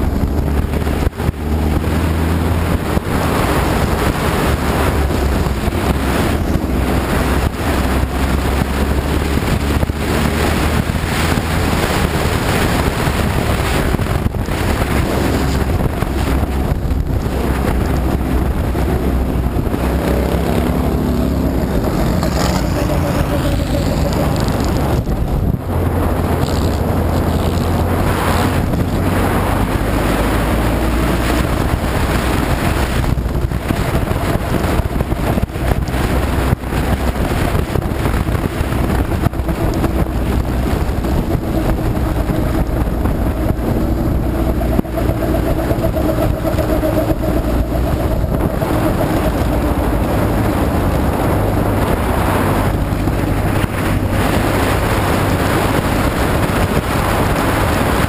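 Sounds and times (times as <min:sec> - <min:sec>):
race car engine running hard: 0:00.0 - 0:58.0
wind buffeting microphone: 0:00.0 - 0:58.0.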